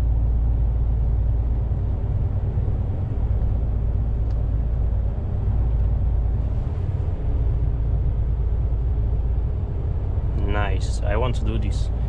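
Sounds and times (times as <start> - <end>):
heavy truck engine and road noise: 0.0 - 12.0.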